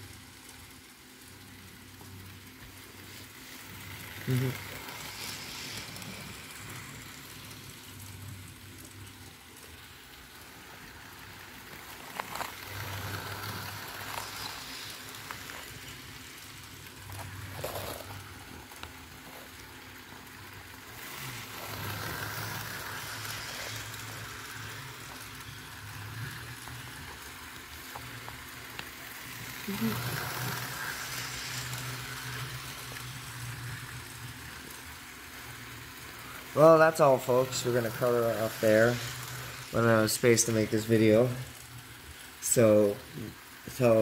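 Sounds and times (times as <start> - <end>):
model train whirring rattle: 0.0 - 44.0.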